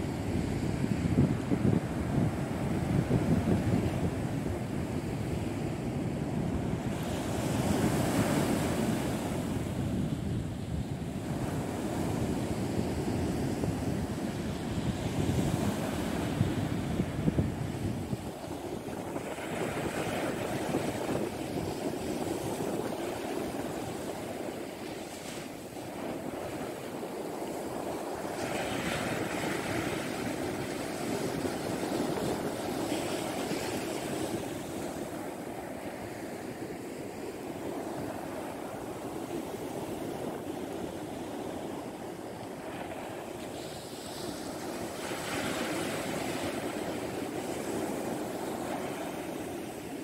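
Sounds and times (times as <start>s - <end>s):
sea surf washing onto beach: 0.0s - 50.0s.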